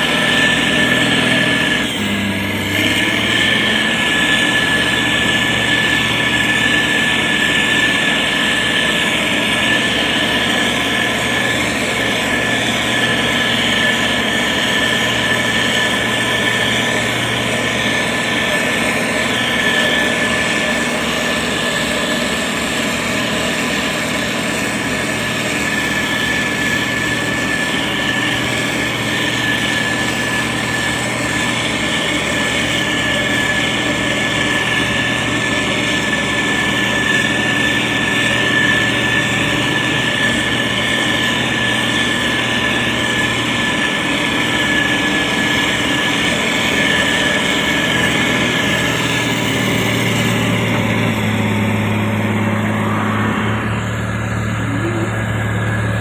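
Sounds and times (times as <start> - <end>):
diesel engine running: 0.0 - 56.0
high-pitched whine: 0.0 - 56.0.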